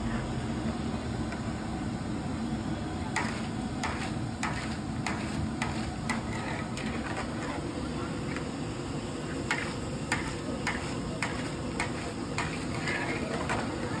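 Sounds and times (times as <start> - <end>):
potato slices deep-frying in oil: 0.1 - 14.0.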